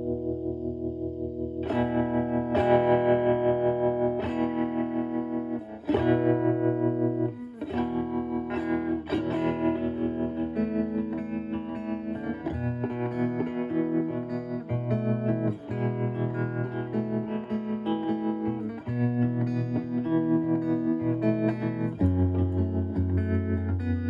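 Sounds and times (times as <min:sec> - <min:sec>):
clean electric guitar chords with tremolo: 0:00.0 - 0:24.0.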